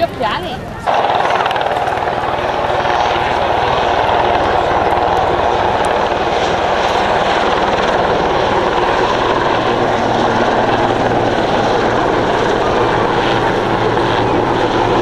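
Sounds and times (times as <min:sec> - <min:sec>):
helicopter rotor beating: 0:00.0 - 0:15.0
turbine engine noise: 0:00.0 - 0:15.0.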